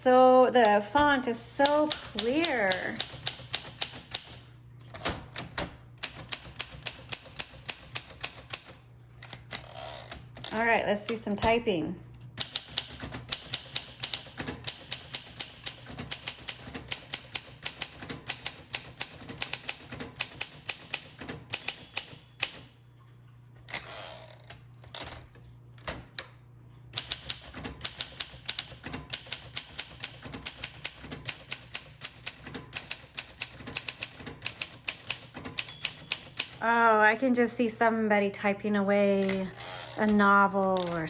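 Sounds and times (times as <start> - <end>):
manual typewriter typing: 0.6 - 11.6, 12.4 - 22.7, 26.9 - 36.7, 38.8 - 41.0.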